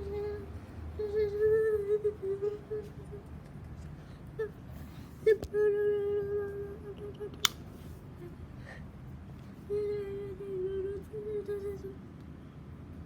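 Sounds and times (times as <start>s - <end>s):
ceiling fan whining: 0.0s - 13.0s.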